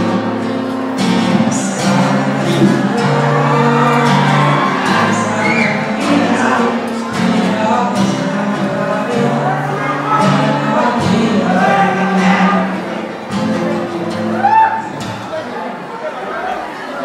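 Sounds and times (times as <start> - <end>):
man singing into a microphone: 0.0 - 15.2
strummed acoustic guitar: 0.0 - 15.5.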